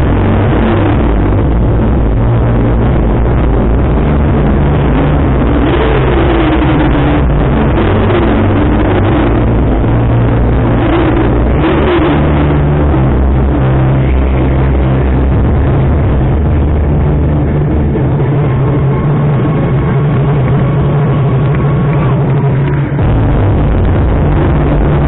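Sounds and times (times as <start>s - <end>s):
loud music with deep bass: 0.0s - 25.0s
motorcycle engines revving: 0.0s - 25.0s.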